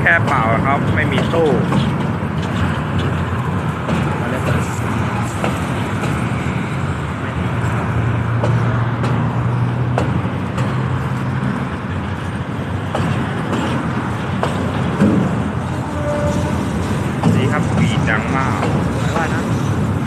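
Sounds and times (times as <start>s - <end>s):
locomotive engine drone: 0.0s - 20.0s
road traffic: 0.0s - 20.0s.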